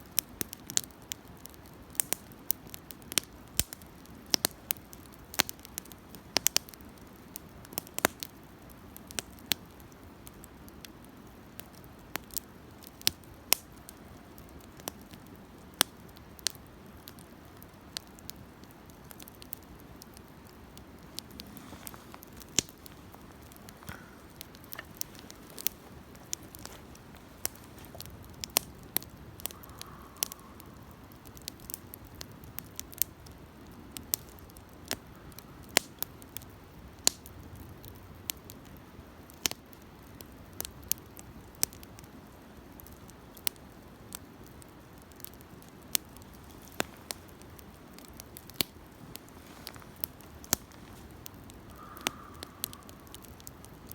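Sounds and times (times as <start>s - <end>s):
campfire crackling and popping: 0.0s - 53.9s
soft hiss of flame: 0.4s - 37.7s, 38.3s - 53.9s.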